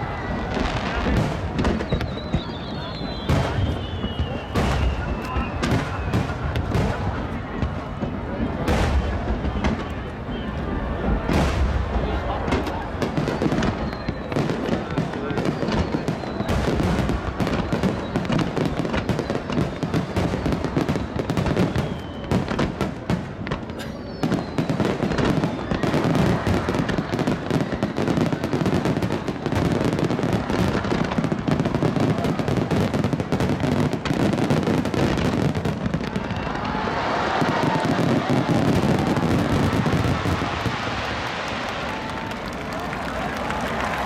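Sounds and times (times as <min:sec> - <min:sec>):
faint firework whistles: 0:00.0 - 0:11.7, 0:12.5 - 0:42.6
fireworks bursting and crackling: 0:00.0 - 0:44.0.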